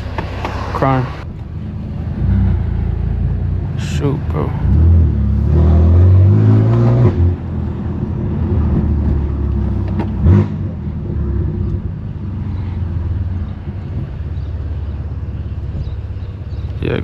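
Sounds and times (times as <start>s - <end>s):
car engine deep rumble: 0.0s - 17.0s.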